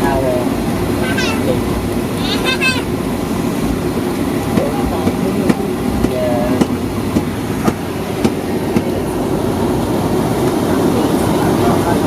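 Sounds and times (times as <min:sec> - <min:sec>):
aircraft engines rumbling: 0:00.0 - 0:12.0
wheels clicking over taxiway joints: 0:00.0 - 0:12.0.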